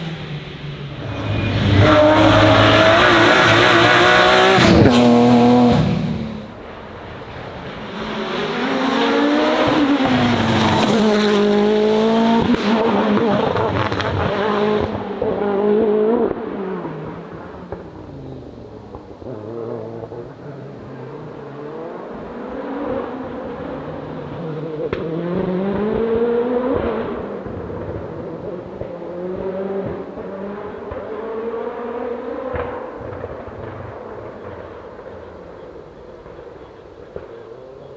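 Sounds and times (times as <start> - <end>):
race car engine revving: 0.0 - 34.2.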